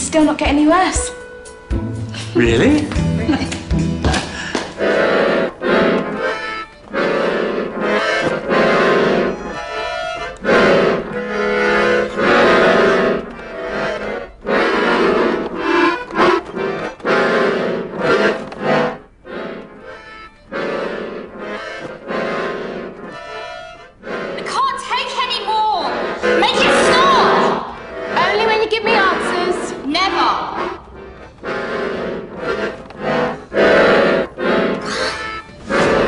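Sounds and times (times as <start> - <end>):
accordion playing chords: 0.0 - 36.0.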